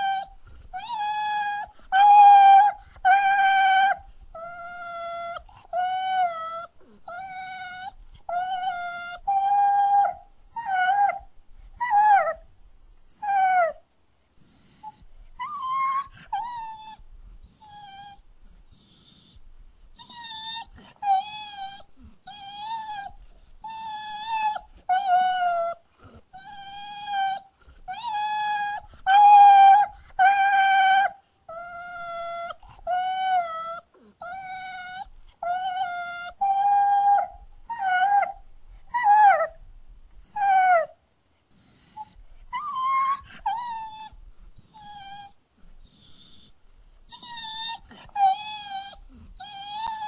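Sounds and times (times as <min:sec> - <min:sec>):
dog whining and whimpering: 0:00.0 - 0:12.4, 0:13.1 - 0:13.8, 0:14.4 - 0:19.4, 0:20.0 - 0:39.6, 0:40.2 - 0:50.0.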